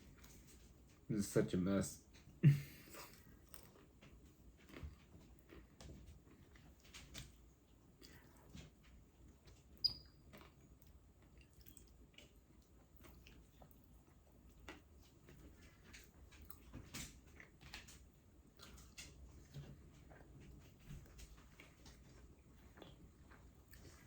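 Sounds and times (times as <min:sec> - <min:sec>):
mouth clicks and chewing: 0:02.1 - 0:24.0.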